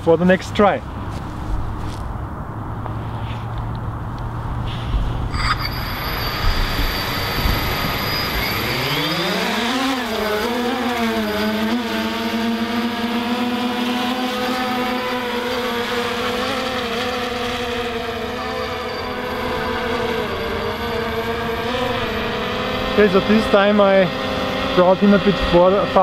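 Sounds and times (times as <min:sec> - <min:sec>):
quadcopter motors humming: 0:05.0 - 0:26.0.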